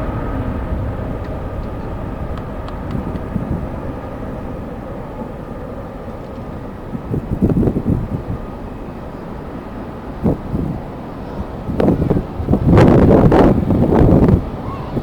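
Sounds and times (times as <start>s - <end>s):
faint engine whine: 0.0s - 15.0s
jet engines rumbling: 0.0s - 15.0s
wind buffeting microphone: 0.0s - 15.0s.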